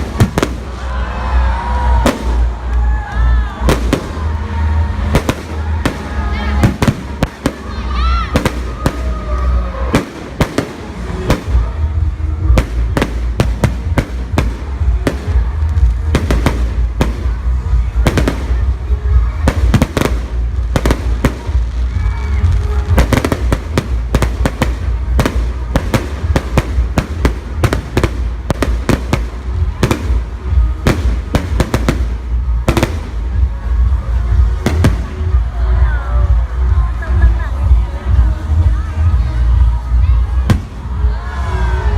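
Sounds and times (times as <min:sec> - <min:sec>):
fireworks bangs: 0:00.0 - 0:02.9, 0:03.6 - 0:35.8.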